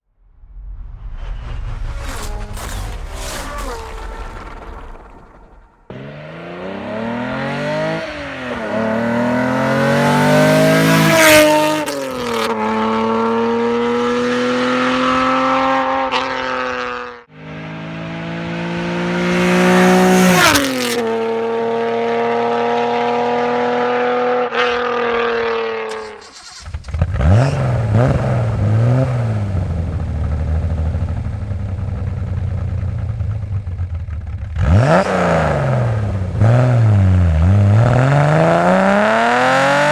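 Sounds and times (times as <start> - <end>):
car engine revving: 0.6 - 39.9.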